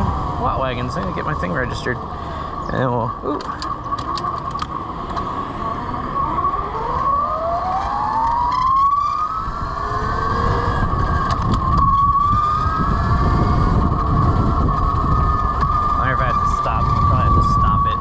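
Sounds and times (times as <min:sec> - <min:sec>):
electric motorcycle motor whine: 0:00.0 - 0:18.0
wind rumble: 0:00.0 - 0:18.0.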